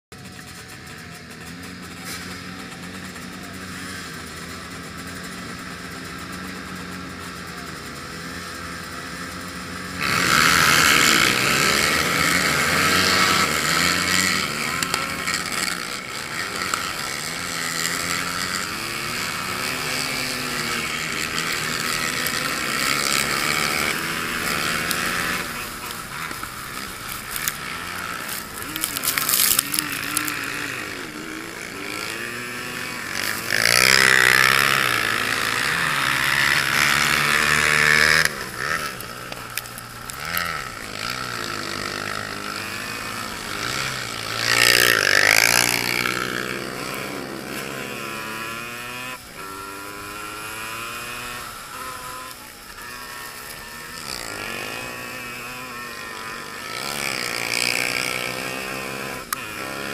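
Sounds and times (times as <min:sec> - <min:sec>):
quad engines idling and racing: 0:00.1 - 0:59.9.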